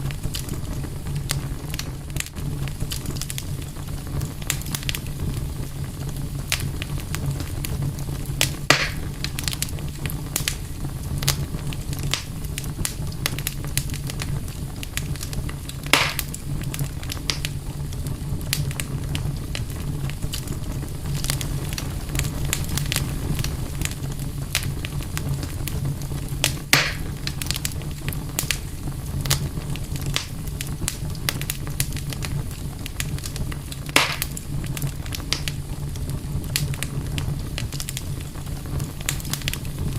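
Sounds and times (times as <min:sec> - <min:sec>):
campfire crackling: 0:00.0 - 0:39.9
fire popping: 0:00.0 - 0:39.9.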